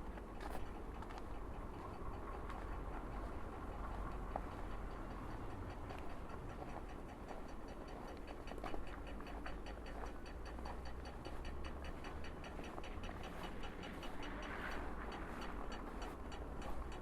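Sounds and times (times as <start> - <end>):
crossing signal ticking rapidly: 0.0 - 17.0
low city hum: 0.0 - 17.0.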